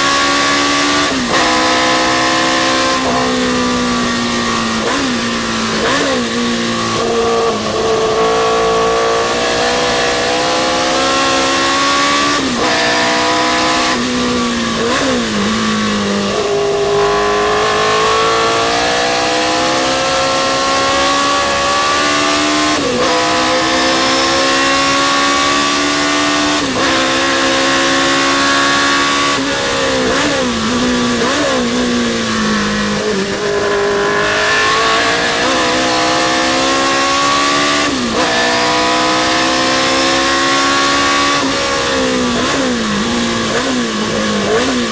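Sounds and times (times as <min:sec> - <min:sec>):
racing car engine revving: 0:00.0 - 0:44.9.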